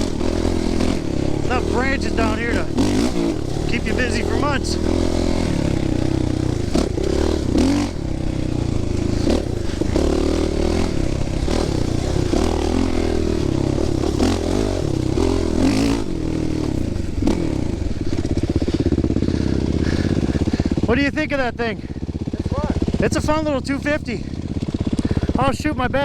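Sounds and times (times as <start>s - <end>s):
dirt bike engine revving: 0.0s - 25.5s.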